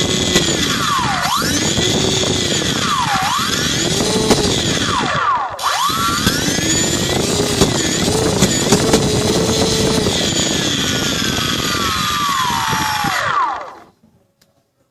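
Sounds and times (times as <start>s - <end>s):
bad bearing noise: 0.0s - 13.5s
electric motor whining: 0.0s - 13.9s.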